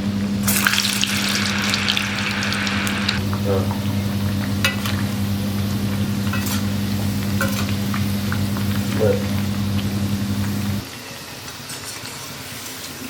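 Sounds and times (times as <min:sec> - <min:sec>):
low hum: 0:00.0 - 0:10.8
food sizzling in hot oil: 0:00.4 - 0:13.0.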